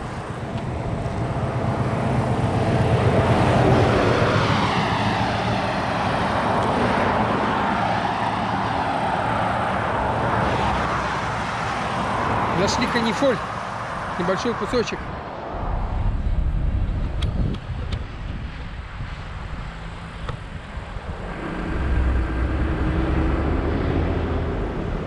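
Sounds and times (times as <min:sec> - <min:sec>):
drone of traffic: 0:00.0 - 0:25.0
vehicle passing close: 0:00.0 - 0:25.0.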